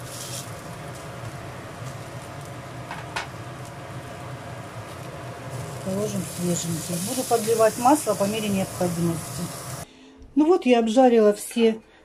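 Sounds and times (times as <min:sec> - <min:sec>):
eggplant sizzling in oil: 0:00.0 - 0:09.9.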